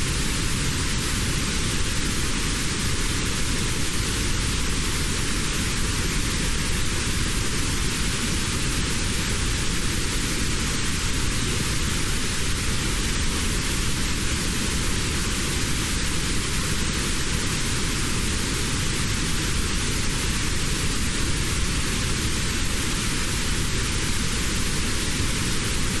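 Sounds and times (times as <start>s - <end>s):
notched white noise: 0.0s - 26.0s.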